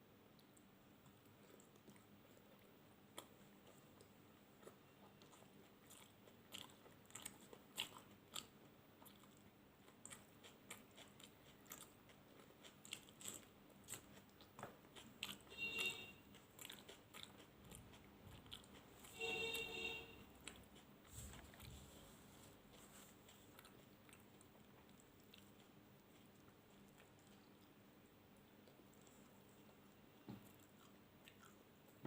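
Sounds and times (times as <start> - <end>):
person chewing food: 0.3 - 32.0.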